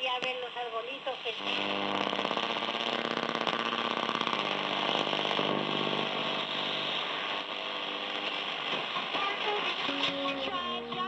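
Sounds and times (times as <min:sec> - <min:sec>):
pulsing radio interference buzz: 0:00.7 - 0:11.0.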